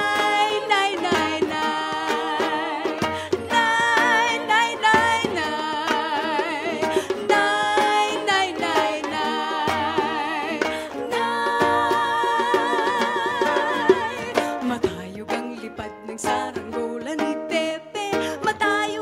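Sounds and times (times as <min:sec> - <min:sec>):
instrumental accompaniment: 0:00.0 - 0:19.0
woman singing with vibrato: 0:00.0 - 0:19.0.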